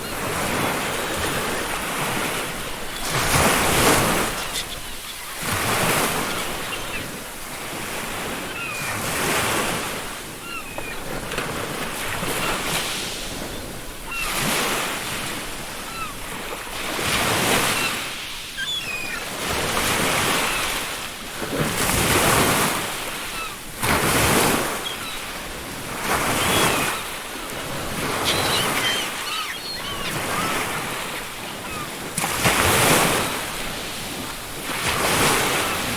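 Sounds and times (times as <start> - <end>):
seagulls calling: 0.0 - 21.0, 22.3 - 35.9
ocean waves breaking on a beach: 0.0 - 35.9.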